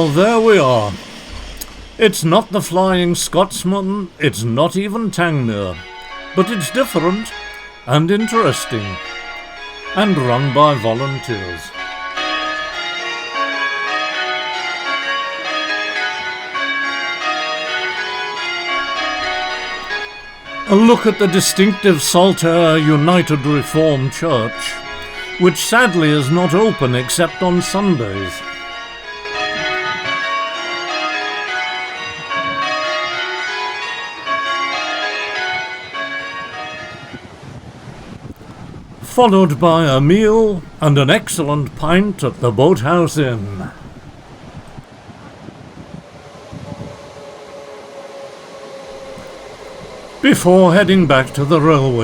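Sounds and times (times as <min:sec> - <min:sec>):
church bells ringing: 0:00.0 - 0:44.9, 0:47.6 - 0:52.0.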